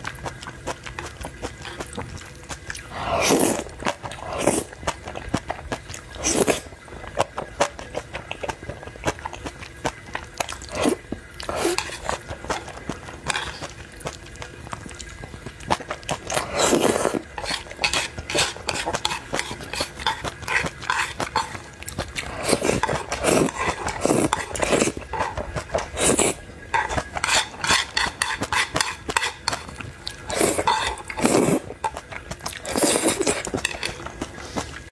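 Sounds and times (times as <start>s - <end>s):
noodles slurped: 0.0s - 34.9s
wet chewing: 0.0s - 34.9s.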